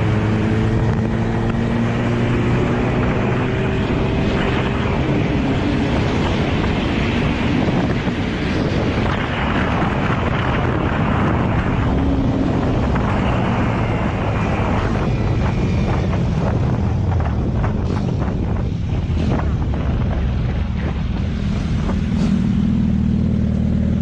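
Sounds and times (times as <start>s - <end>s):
engine running loudly: 0.0s - 24.0s
wind buffeting microphone: 0.0s - 24.0s.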